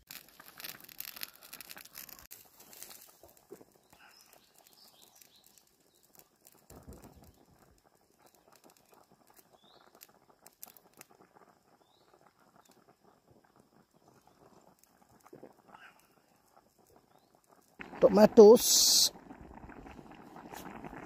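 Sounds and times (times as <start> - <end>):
light crackling: 0.0 - 21.0.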